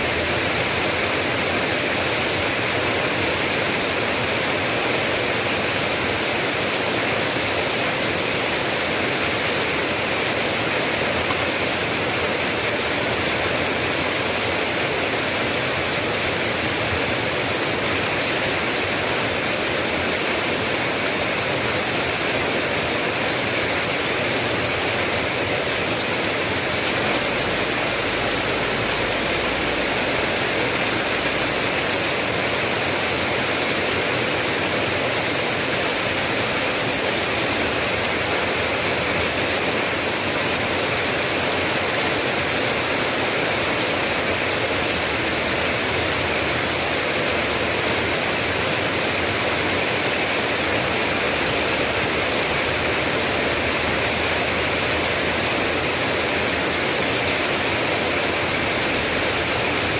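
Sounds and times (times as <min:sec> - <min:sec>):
heavy rain hiss: 0:00.0 - 0:59.9.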